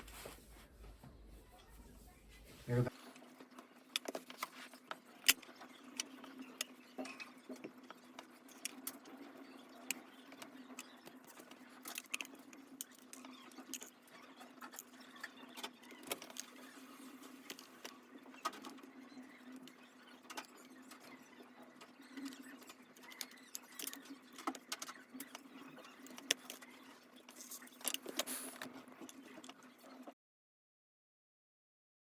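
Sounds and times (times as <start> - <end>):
keyboard parts clicking and scraping: 3.2 - 30.1.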